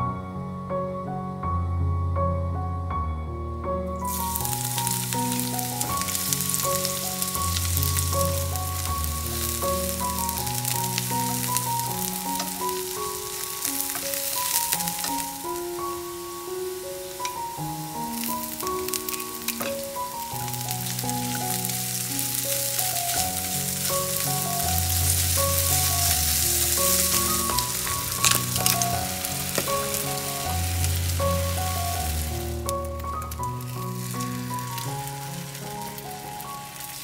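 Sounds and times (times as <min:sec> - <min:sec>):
background music: 0:00.0 - 0:37.0
food sizzling in a hot pan: 0:04.0 - 0:37.0
sharp crackles: 0:04.0 - 0:37.0.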